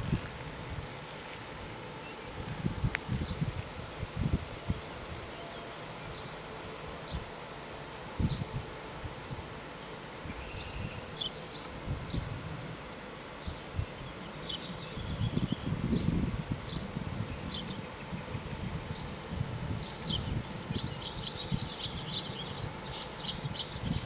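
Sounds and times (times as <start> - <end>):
wind rumbling on microphone: 0.0 - 5.3, 8.2 - 9.6, 10.2 - 12.8, 13.4 - 24.0
steady hiss: 0.0 - 24.0.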